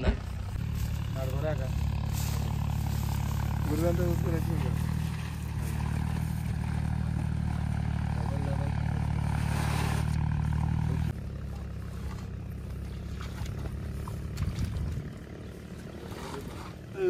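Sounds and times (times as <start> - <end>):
tractor diesel engine chugging: 0.0 - 14.4.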